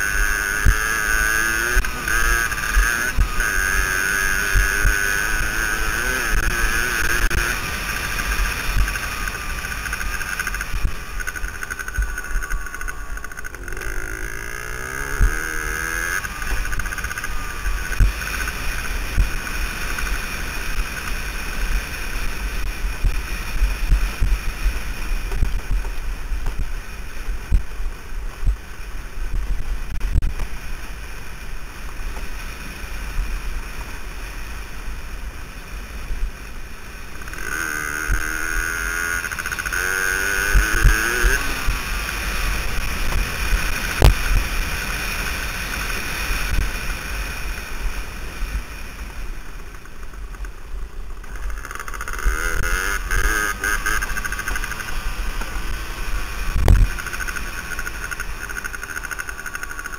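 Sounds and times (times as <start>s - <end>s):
two-stroke dirt bike engine: 0.0s - 59.9s.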